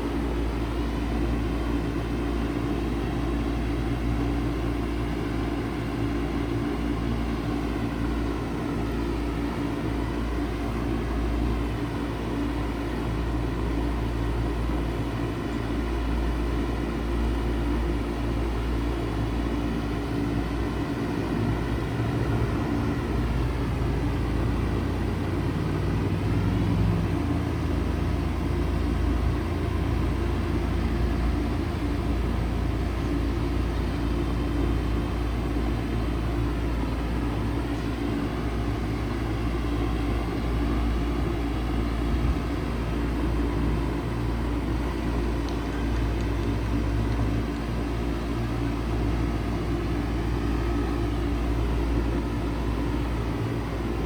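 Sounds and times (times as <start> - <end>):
heat pump humming: 0.0 - 54.0.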